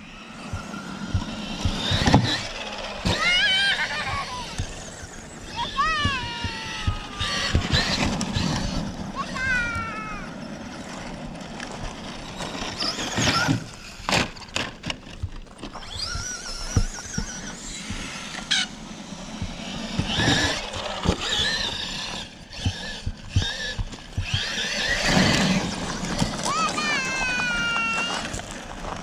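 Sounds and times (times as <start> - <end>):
toy truck electric motor whining: 0.0 - 29.0.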